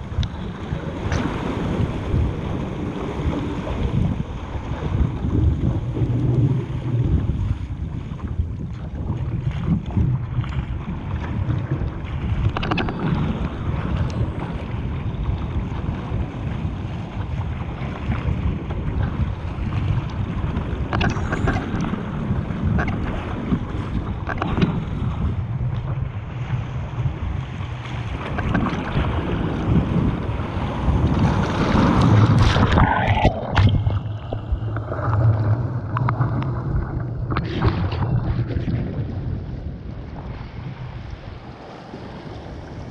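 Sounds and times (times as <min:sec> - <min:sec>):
paddle strokes splashing: 0:00.0 - 0:42.9
water rushing past hull: 0:00.0 - 0:42.9
wind buffeting microphone: 0:00.0 - 0:42.9.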